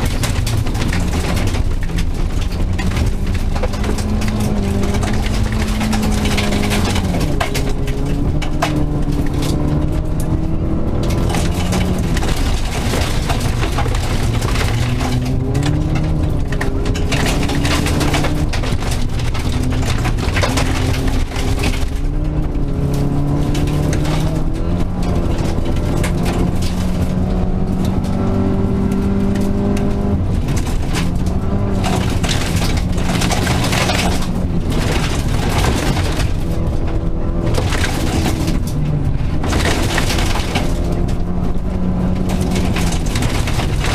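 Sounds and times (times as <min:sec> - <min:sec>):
rally car engine revving: 0:00.0 - 0:43.9
sharp clicks and rattles: 0:00.0 - 0:43.9
tyre and gravel noise: 0:00.0 - 0:43.9.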